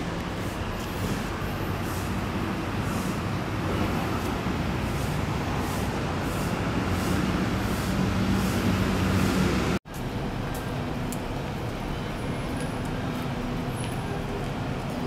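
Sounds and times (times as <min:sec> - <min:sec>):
city traffic rumble: 0:00.0 - 0:15.0
engine drone: 0:00.0 - 0:15.0.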